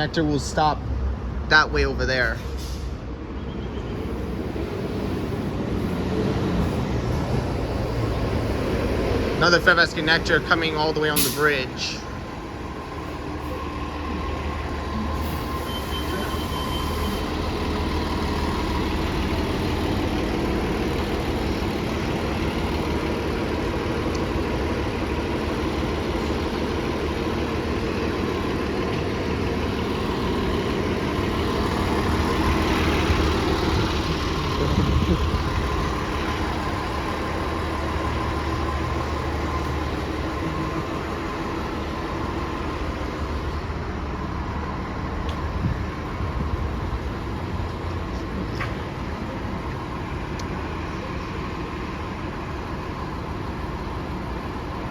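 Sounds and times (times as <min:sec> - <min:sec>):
diesel bus engine running: 0:00.0 - 0:54.9
traffic noise: 0:00.0 - 0:54.9.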